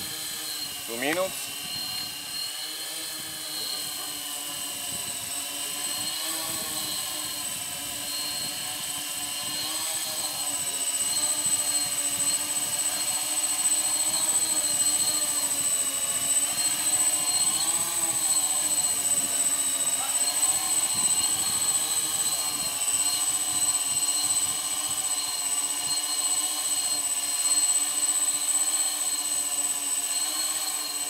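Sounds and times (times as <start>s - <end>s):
drone motors and propellers whining: 0.0s - 31.0s.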